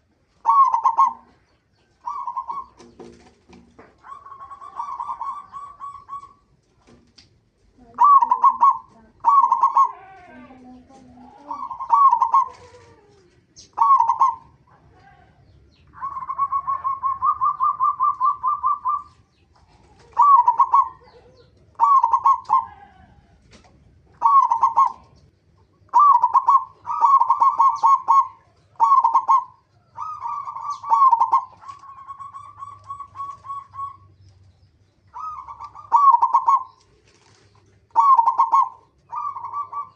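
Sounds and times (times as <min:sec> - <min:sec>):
dove cooing: 0:00.0 - 0:06.6, 0:07.8 - 0:34.3, 0:35.1 - 0:39.9.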